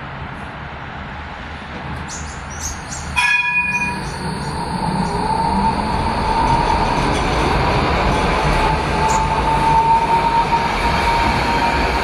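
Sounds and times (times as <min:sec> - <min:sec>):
tram wheels rumbling on rails: 0:00.0 - 0:12.0
tram high whine: 0:01.1 - 0:12.0.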